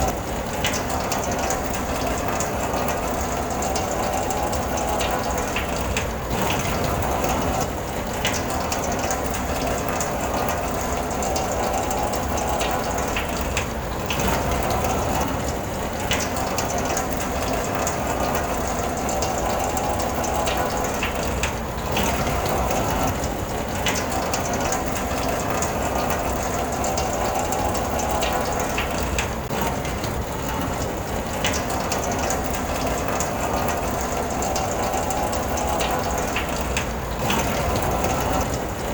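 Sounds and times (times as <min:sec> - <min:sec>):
rain hissing on a car: 0:00.0 - 0:38.9
raindrops ticking on roof and glass: 0:00.0 - 0:38.9.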